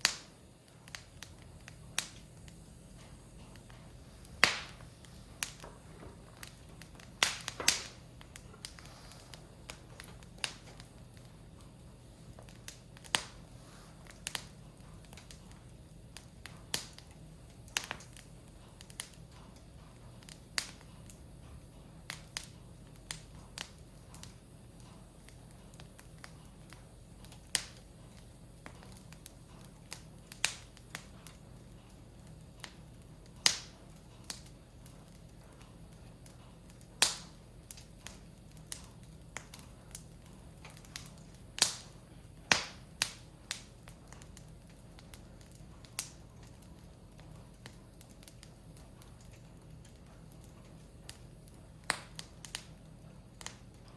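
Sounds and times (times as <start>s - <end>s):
sharp pops and snaps: 0.0s - 11.7s, 12.3s - 15.6s, 22.1s - 31.4s, 32.3s - 35.2s, 36.2s - 53.9s
wood fire crackling: 0.0s - 53.9s.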